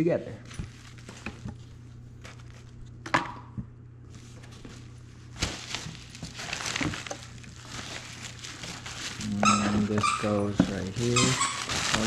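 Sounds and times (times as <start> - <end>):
steady low hum: 0.0 - 12.0
packaging rustling: 0.4 - 3.0, 4.1 - 12.0.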